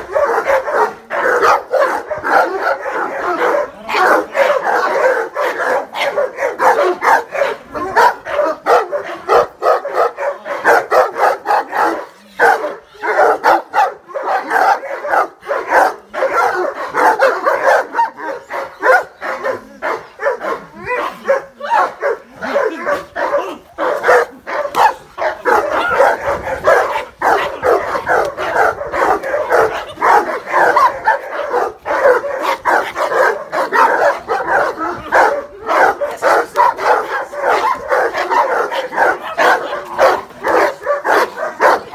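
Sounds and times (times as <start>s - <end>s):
dogs barking rapidly: 0.0s - 41.9s.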